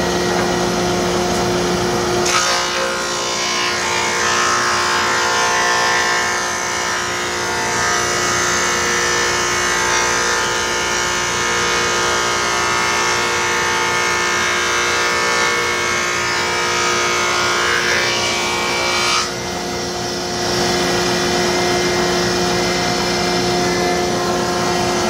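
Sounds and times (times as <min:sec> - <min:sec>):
thickness planer whining: 0:00.0 - 0:25.0.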